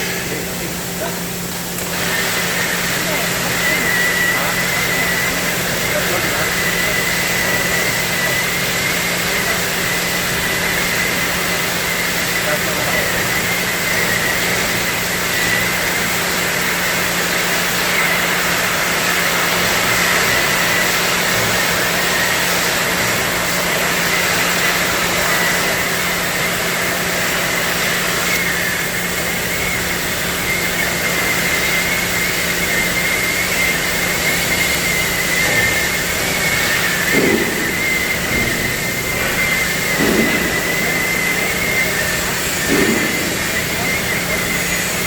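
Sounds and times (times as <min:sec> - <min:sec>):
cutting torch hissing: 0:00.0 - 0:45.0
high wavering whine: 0:02.1 - 0:45.0.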